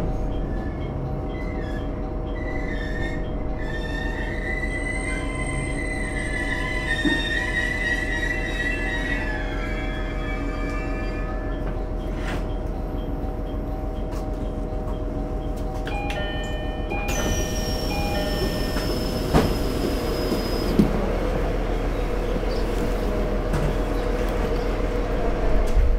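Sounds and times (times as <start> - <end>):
railcar equipment humming: 0.0 - 25.9.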